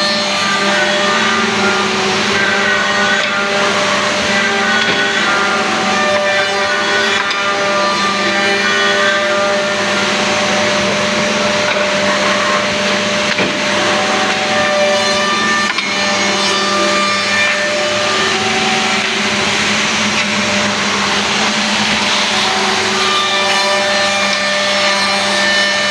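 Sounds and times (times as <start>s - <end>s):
machine cutters milling wood: 0.0s - 25.9s
tenoning machine running: 0.0s - 25.9s.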